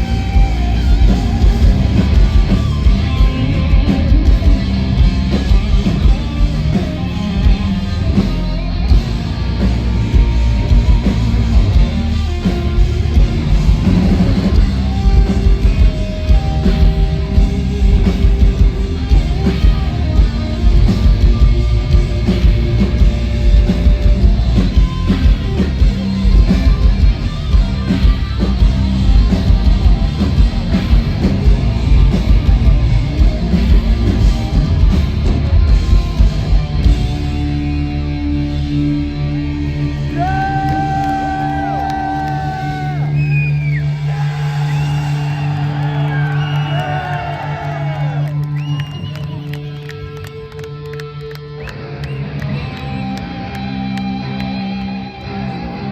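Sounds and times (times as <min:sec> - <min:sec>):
heavy metal band playing live: 0:00.0 - 0:55.9.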